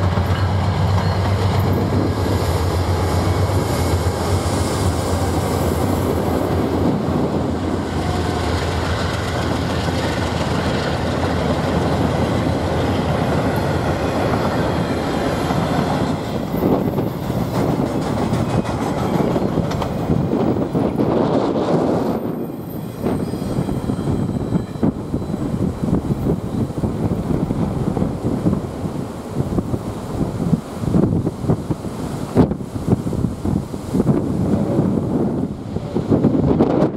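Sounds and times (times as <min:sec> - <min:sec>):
diesel locomotive engine hum: 0:00.0 - 0:36.9.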